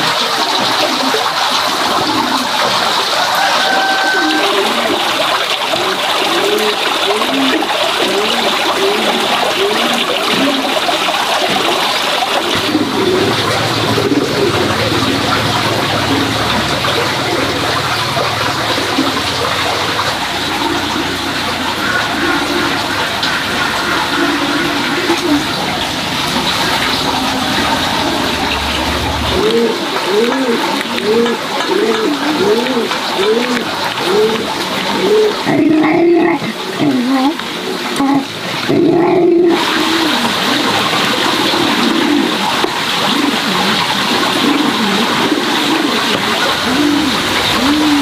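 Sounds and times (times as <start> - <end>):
running water rushing: 0.0 - 48.0.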